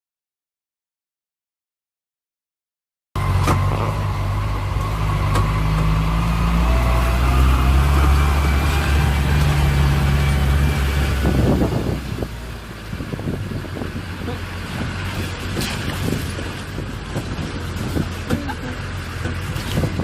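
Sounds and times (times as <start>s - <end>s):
vehicle engine humming: 3.2s - 20.0s.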